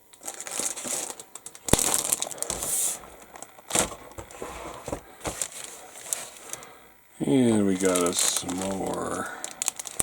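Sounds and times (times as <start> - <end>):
plastic bag crinkling: 0.1 - 10.0.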